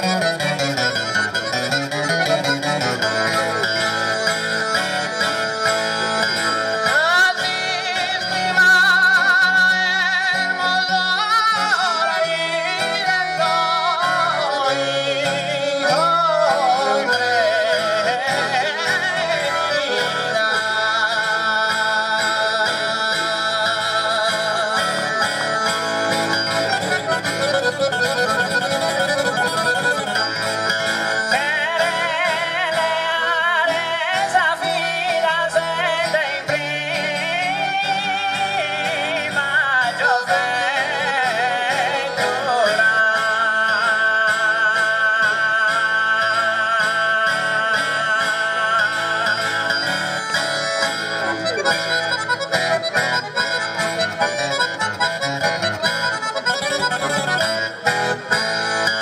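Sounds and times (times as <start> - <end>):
accordion: 0.0 - 59.0
acoustic guitar: 0.0 - 59.0
man singing: 0.0 - 59.0.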